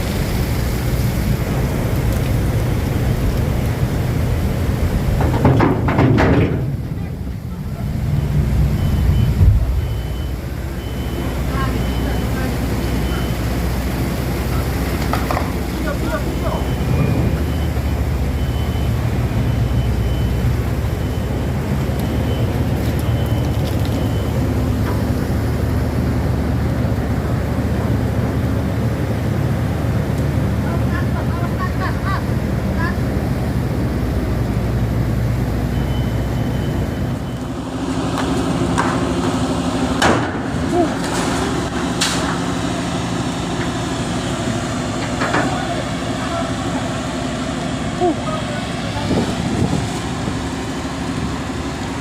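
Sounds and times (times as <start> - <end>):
ship engine rumbling: 0.0 - 52.0.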